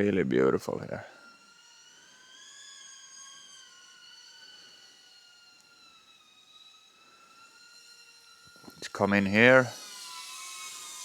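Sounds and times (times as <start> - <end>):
drone propeller whine: 0.0 - 11.0.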